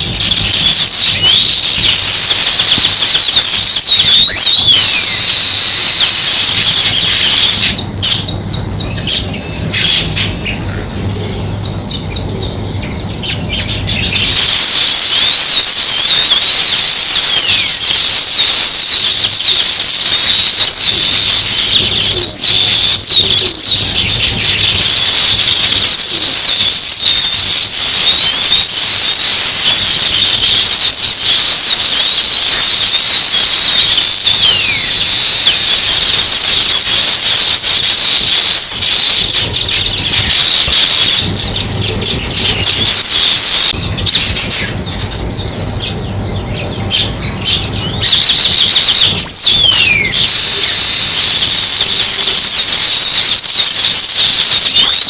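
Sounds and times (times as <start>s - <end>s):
flock of small birds chirping: 0.0s - 55.0s.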